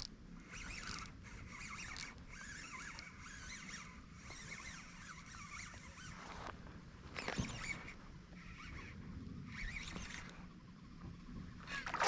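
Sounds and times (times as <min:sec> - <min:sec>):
fishing reel whirring: 0:00.0 - 0:10.9, 0:11.5 - 0:12.0.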